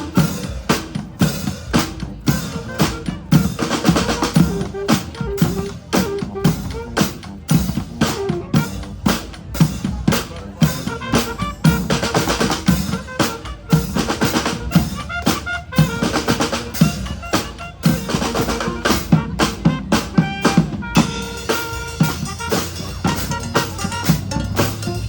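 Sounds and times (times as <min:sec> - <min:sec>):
bass drum and snare rhythm: 0:00.0 - 0:25.0
wind instruments holding notes: 0:00.0 - 0:25.0.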